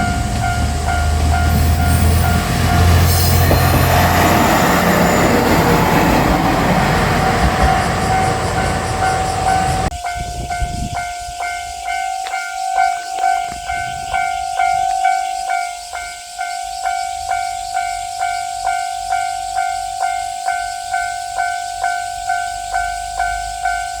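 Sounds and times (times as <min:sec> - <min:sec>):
level-crossing bell ringing: 0:00.0 - 0:10.2, 0:11.1 - 0:24.0
diesel railcar running: 0:00.0 - 0:24.0.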